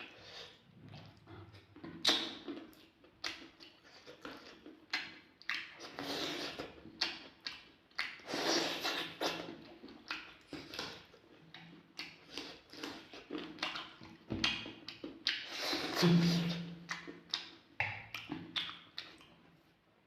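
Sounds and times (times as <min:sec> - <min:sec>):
wet chewing and lip smacks: 0:00.0 - 0:19.8.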